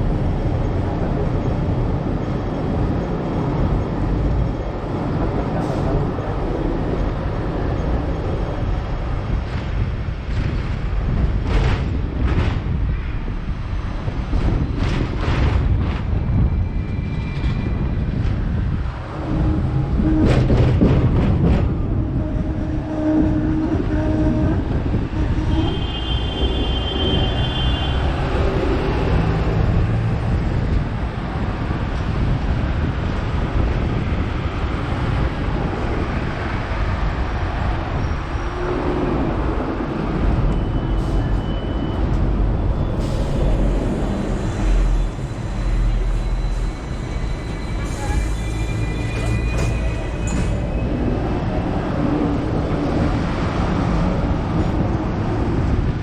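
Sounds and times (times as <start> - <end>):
tram rumbling on rails: 0.0 - 56.0.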